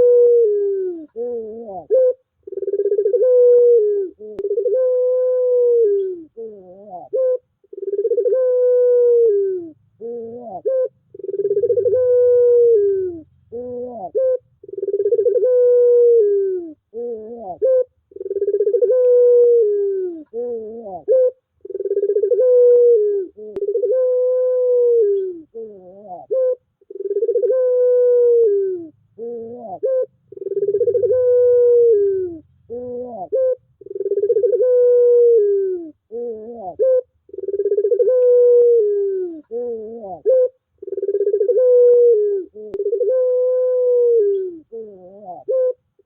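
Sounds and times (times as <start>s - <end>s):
dove cooing: 0.0s - 46.0s.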